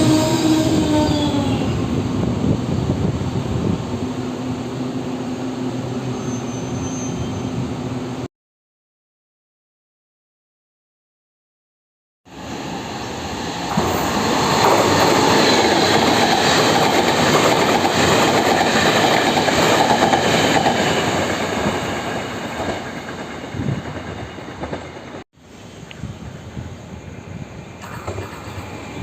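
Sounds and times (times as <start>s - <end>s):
train passing at speed: 0.0s - 8.3s, 12.3s - 29.0s.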